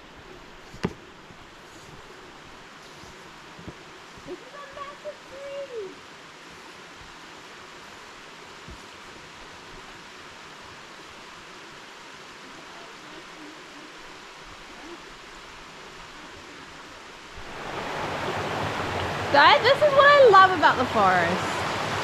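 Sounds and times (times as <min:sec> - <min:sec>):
forest creek rushing: 0:00.0 - 0:22.0.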